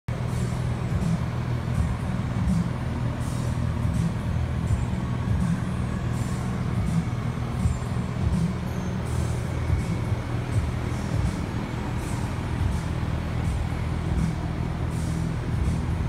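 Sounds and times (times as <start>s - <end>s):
low mechanical hum: 0.1s - 16.0s.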